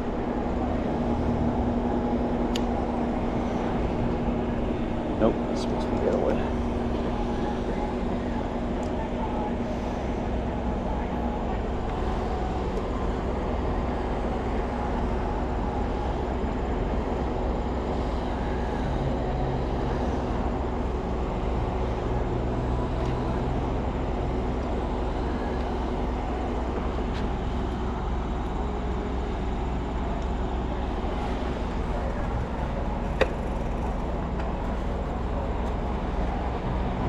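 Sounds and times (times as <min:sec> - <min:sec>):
road and wind rumble: 0:00.0 - 0:37.0.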